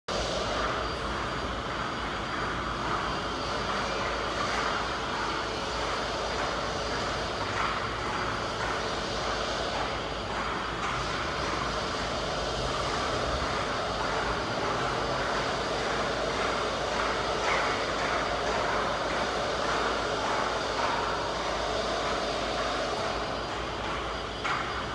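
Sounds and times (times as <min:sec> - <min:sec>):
faint constant hum: 0:00.1 - 0:24.9
mechanical drone: 0:00.1 - 0:24.9.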